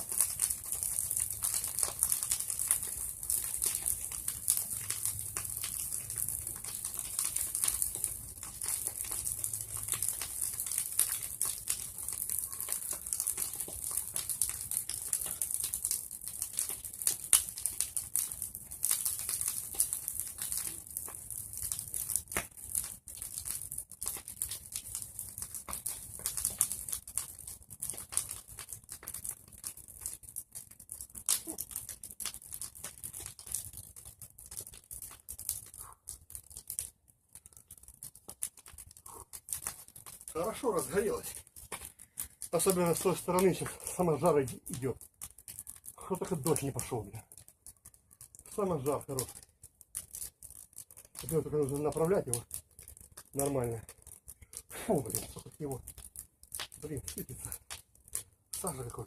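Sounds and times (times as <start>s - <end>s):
bonfire crackling: 0.0s - 59.0s
steady hiss of fire: 0.0s - 59.0s.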